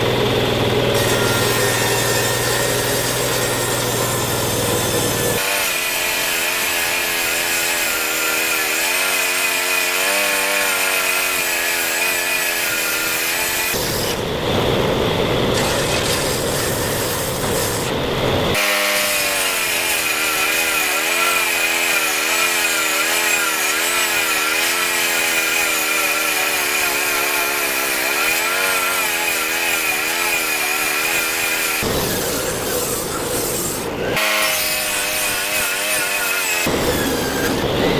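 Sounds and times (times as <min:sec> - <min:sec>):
circular saw ripping wood: 0:00.8 - 0:14.3, 0:15.5 - 0:37.9.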